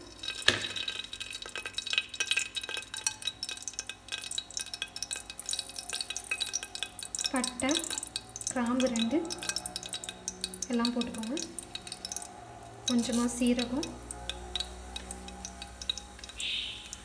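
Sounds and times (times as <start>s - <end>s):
spices crackling in hot oil: 0.0s - 17.0s.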